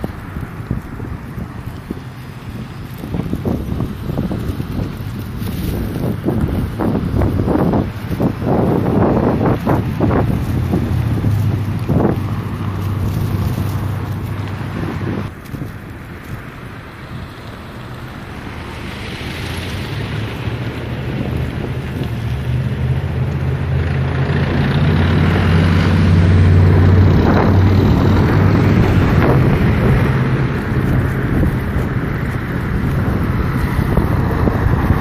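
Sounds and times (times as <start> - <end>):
low engine hum: 0.0 - 35.0
wind rushing over microphone: 0.0 - 35.0.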